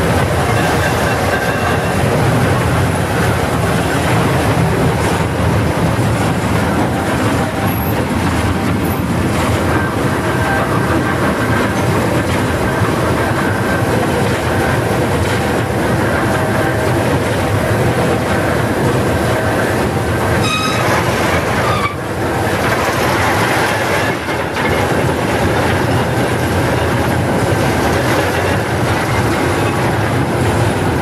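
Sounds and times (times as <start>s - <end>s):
loud diesel engine: 0.0s - 31.0s
winch drums and gears clattering: 0.1s - 31.0s.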